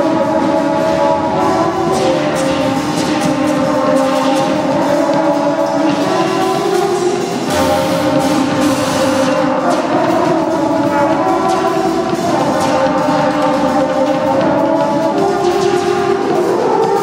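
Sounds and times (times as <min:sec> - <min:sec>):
droning tones: 0:00.0 - 0:17.0
drums and cymbals: 0:00.0 - 0:17.0.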